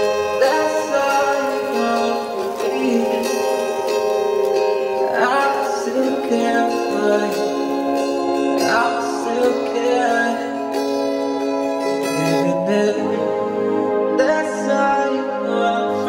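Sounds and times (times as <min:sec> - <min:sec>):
background music with held notes: 0:00.0 - 0:16.0.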